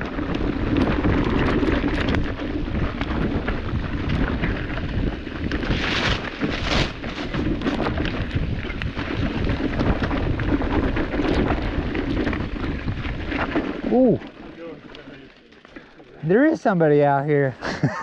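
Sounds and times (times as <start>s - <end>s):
wind buffeting microphone: 0.0s - 15.0s
bike rolling on rocky trail: 0.0s - 18.0s.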